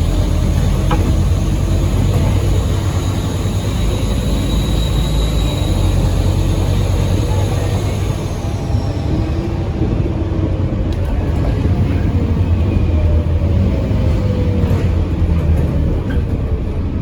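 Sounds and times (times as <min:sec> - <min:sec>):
bus engine droning with whine: 0:00.0 - 0:17.0.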